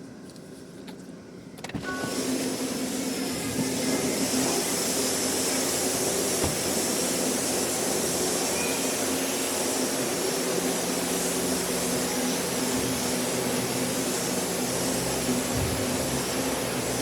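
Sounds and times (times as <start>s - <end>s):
car wash hiss: 1.8s - 17.0s.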